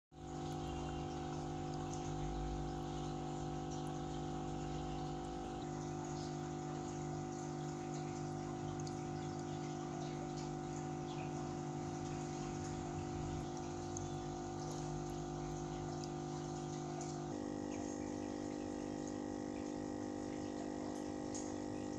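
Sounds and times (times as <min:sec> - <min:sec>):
water pump humming: 0:00.1 - 0:21.9.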